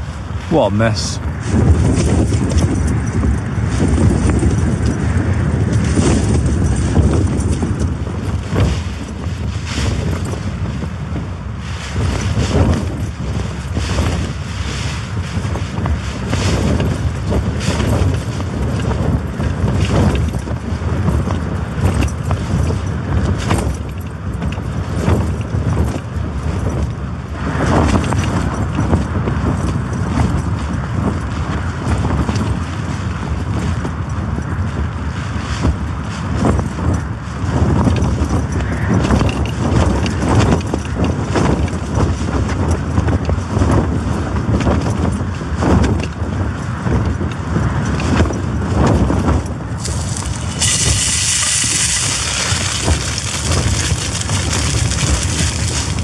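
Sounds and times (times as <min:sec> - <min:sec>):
low wind rumble: 0:00.0 - 0:56.0
tent fabric flapping in wind: 0:00.0 - 0:56.0.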